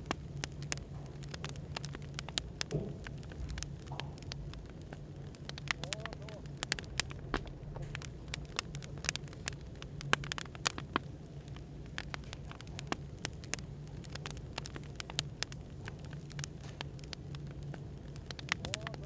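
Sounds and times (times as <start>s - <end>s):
low background hum: 0.0s - 19.0s
wood fire crackling: 0.0s - 19.0s.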